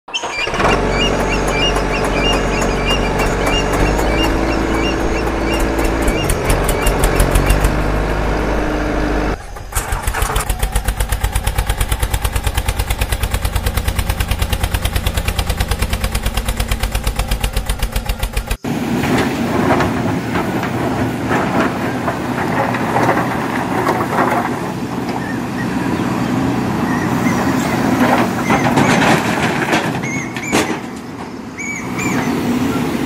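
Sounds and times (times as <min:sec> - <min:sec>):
engine running: 0:00.1 - 0:33.0.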